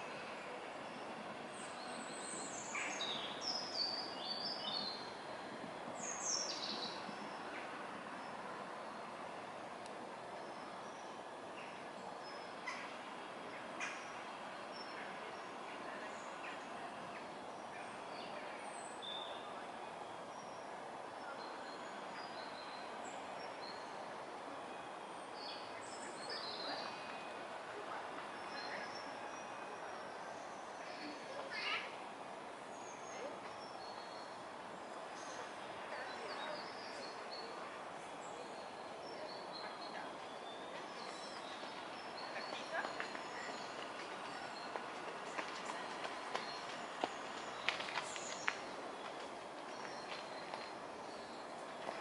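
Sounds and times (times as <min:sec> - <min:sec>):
outdoor background hiss: 0:00.0 - 0:52.0.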